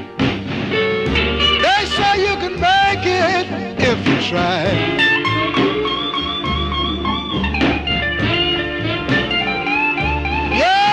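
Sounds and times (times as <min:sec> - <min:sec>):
guitar-led song: 0:00.0 - 0:10.9.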